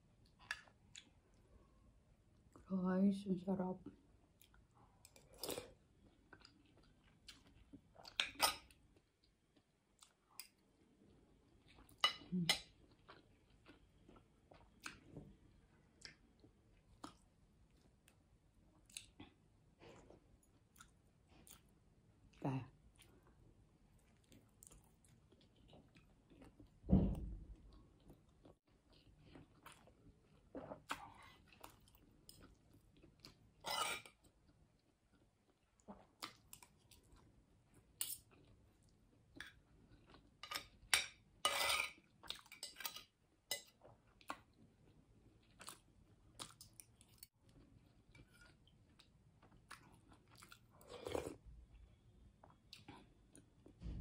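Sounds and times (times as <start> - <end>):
chewing food: 0.2 - 1.5, 3.8 - 26.8, 27.5 - 40.9, 41.9 - 53.9.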